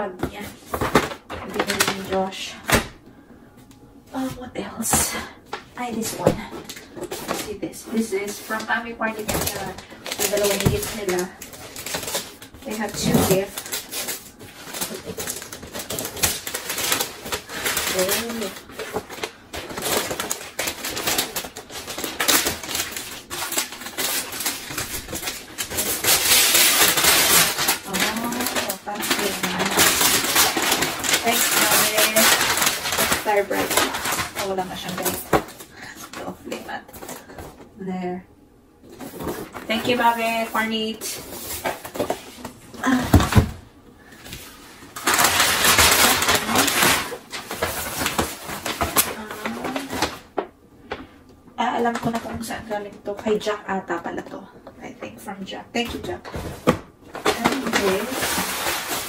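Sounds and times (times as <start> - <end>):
packaging rustling and scraping: 0.2 - 2.5, 3.9 - 37.7, 38.8 - 51.1, 56.0 - 59.0
metallic gift wrap crinkling and tearing: 0.6 - 2.6, 5.0 - 37.6, 38.9 - 50.4, 56.0 - 59.0.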